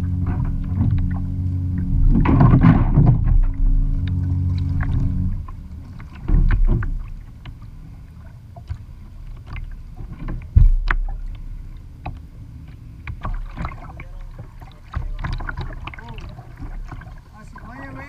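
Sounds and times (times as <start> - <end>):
dull low knocks: 0.0 - 18.0
paddle drips: 0.0 - 18.0
water lapping and splashing: 0.0 - 18.0.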